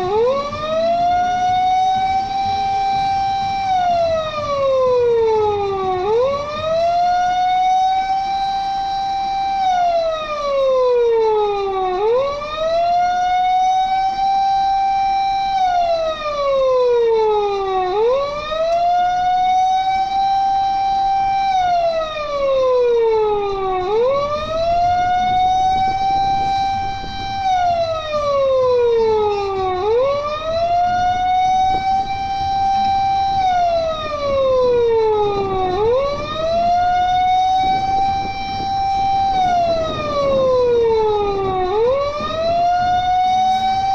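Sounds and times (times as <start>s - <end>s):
electronic siren wailing: 0.0s - 43.9s.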